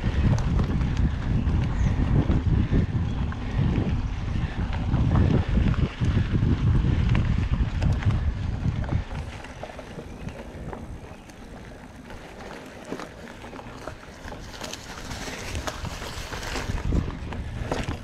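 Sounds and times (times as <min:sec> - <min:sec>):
bike clicks and rattles: 0:00.0 - 0:18.0
bike tyres on dirt: 0:00.0 - 0:18.0
wind buffeting microphone: 0:00.0 - 0:18.0.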